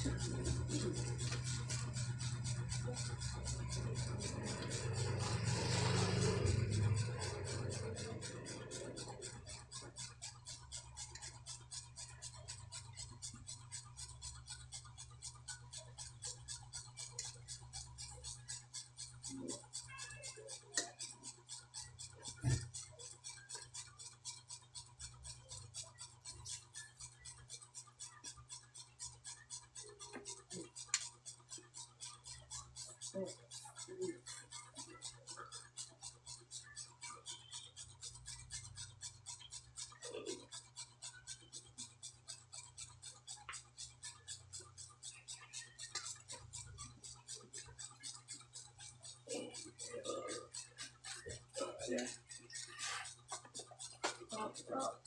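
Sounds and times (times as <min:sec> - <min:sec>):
constant low hum: 0:00.0 - 0:55.0
rapid even ticking: 0:00.0 - 0:55.0.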